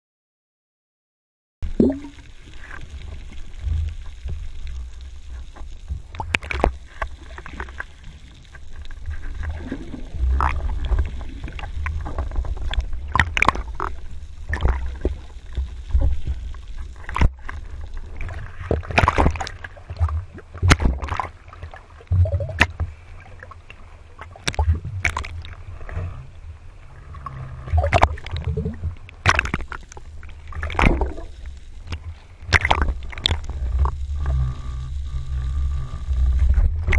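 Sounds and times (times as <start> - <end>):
muffled underwater rumble: 1.6 - 36.9.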